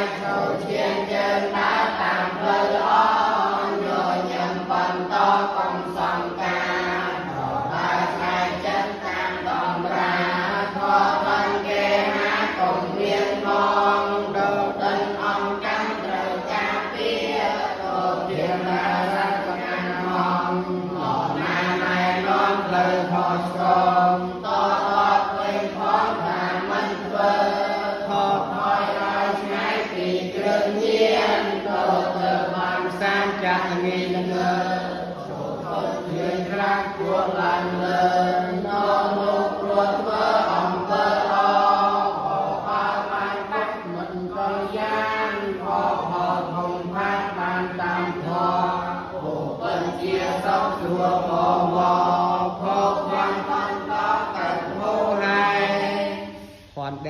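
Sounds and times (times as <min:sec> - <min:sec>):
person chanting a poem: 0:00.0 - 0:57.0.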